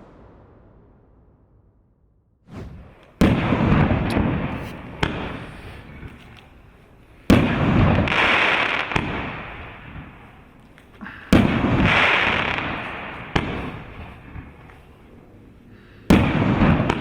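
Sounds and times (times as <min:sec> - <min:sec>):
fireworks bursts: 0:00.0 - 0:10.3, 0:11.4 - 0:14.8
crackle and rumble: 0:00.0 - 0:17.0.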